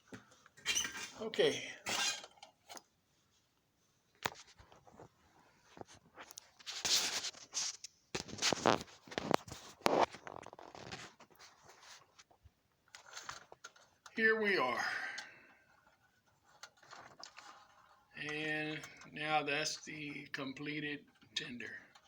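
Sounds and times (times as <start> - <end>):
rustling and scraping: 0.1 - 14.1, 15.4 - 19.1.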